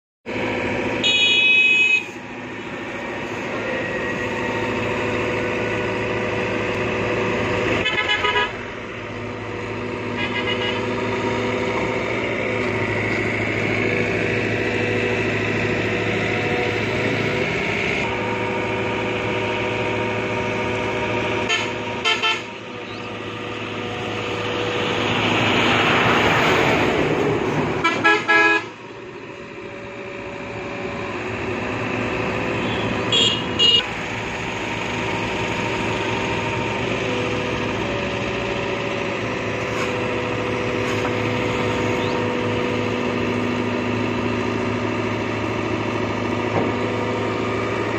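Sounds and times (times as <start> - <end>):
excavator diesel engine: 0.2 - 47.9.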